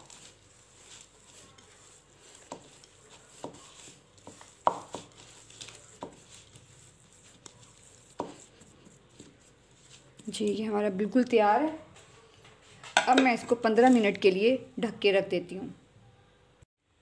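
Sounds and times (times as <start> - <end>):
hands mixing dough in bowl: 0.0 - 14.5.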